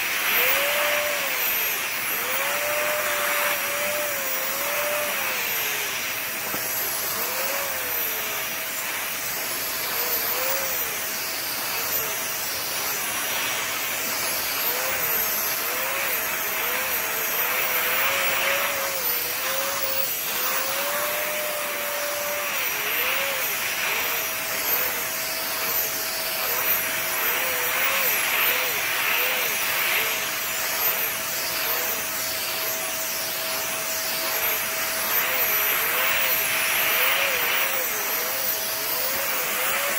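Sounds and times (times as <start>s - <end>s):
vacuum cleaner running on a rug: 0.0s - 39.9s.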